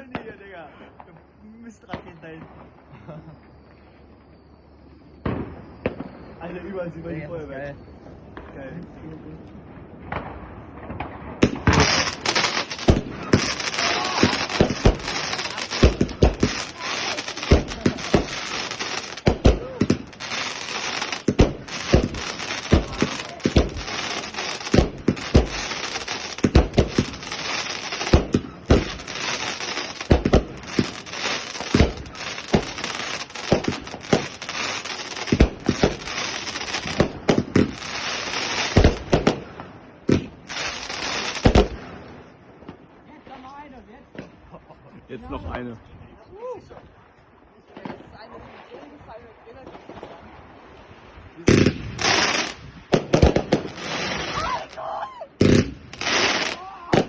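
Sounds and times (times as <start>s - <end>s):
fireworks crackling and banging: 0.0s - 44.7s, 47.6s - 57.0s.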